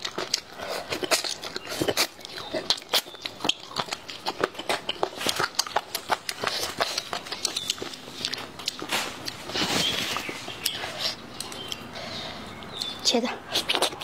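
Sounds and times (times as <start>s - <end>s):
mouth clicks and smacks: 0.0s - 11.9s, 12.6s - 14.0s.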